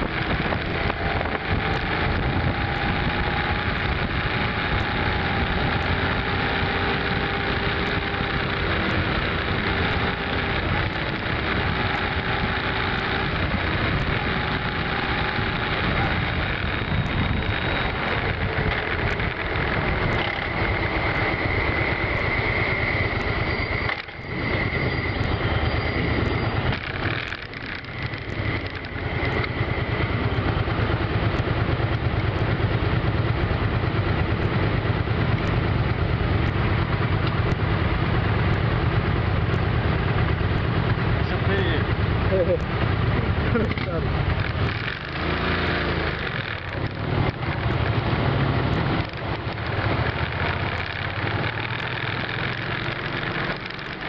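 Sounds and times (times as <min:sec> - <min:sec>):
motorcycle engine: 0:00.0 - 0:54.0
wind and road noise: 0:00.0 - 0:54.0.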